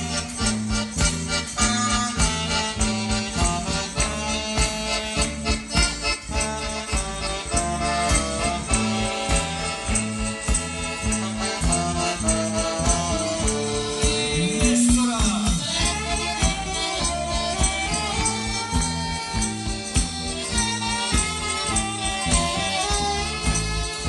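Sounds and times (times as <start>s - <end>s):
live folk band music: 0.0s - 24.0s.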